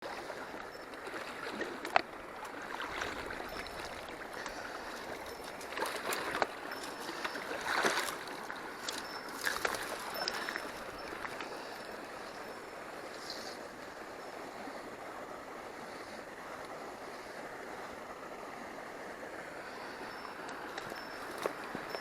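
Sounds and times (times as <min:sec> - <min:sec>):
stream running over stones: 0:00.0 - 0:22.0.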